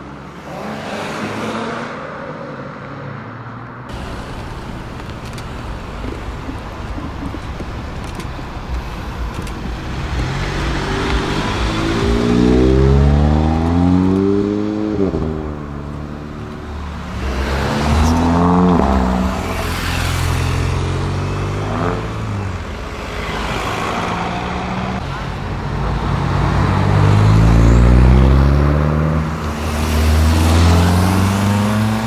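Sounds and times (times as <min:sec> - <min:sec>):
car engine accelerating hard: 0:03.9 - 0:32.0.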